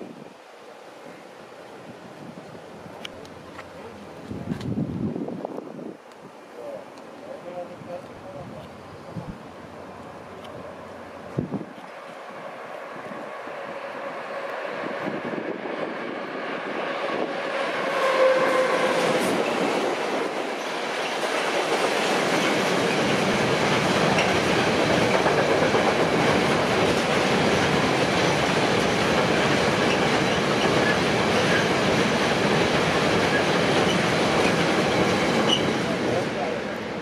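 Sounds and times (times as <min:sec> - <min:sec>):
train wheels rolling on rails: 0:07.0 - 0:37.0.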